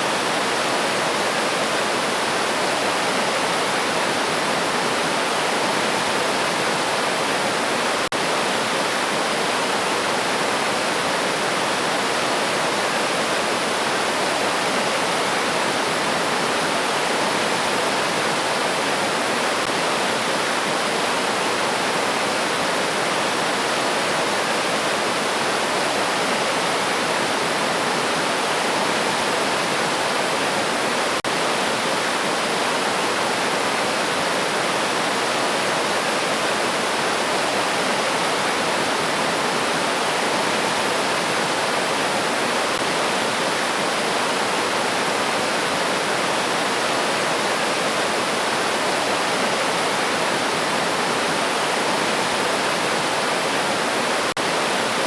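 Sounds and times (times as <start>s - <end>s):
river water rushing over stones: 0.0s - 55.0s.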